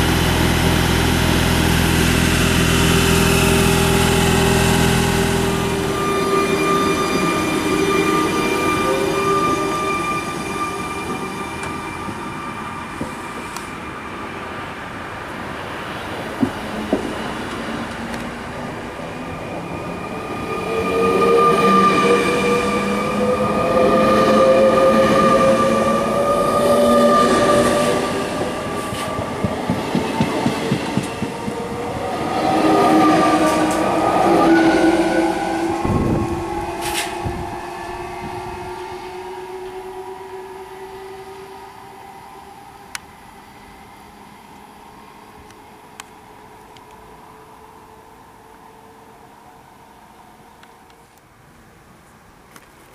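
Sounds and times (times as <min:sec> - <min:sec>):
wheels rumbling on rail: 0:00.0 - 0:49.2.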